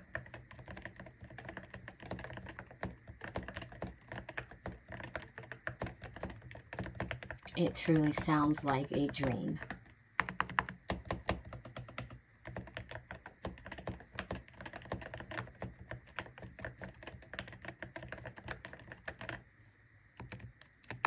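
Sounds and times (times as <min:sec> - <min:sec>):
mechanical keyboard typing: 0:00.0 - 0:19.4, 0:20.2 - 0:21.0.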